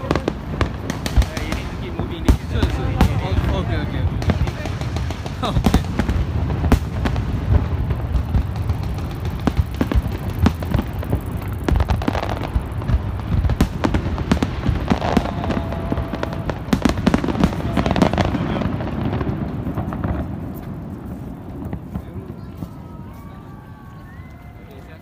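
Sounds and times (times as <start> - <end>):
fireworks bursting with sharp bangs: 0.0 - 25.0.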